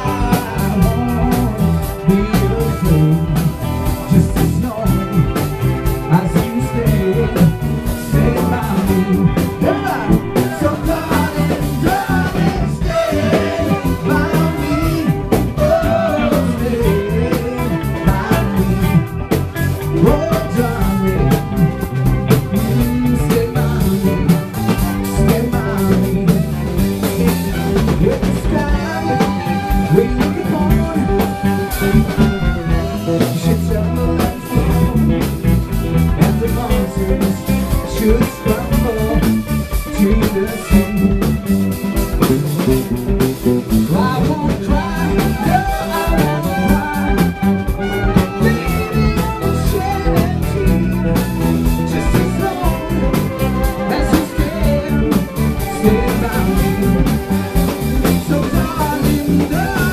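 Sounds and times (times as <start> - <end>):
man singing into microphone: 0.0 - 41.4, 43.6 - 59.9
drum kit: 0.0 - 59.9
electric bass: 0.0 - 59.9
trumpet: 0.0 - 59.9.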